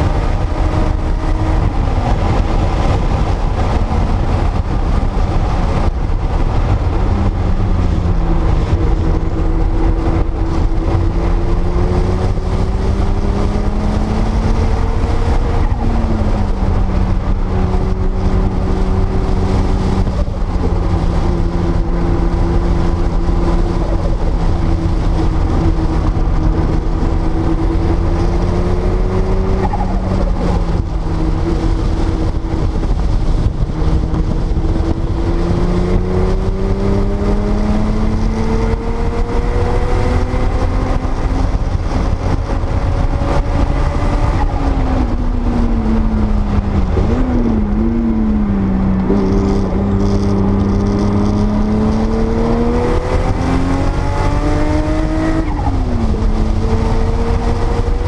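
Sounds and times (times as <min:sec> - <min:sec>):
sports car engine at speed: 0:00.0 - 0:58.0
wind and road noise rumble: 0:00.0 - 0:58.0.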